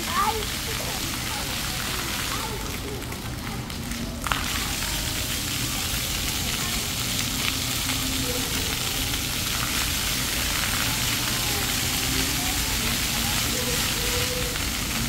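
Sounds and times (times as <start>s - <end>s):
fountain water splashing on paving: 0.0s - 15.0s.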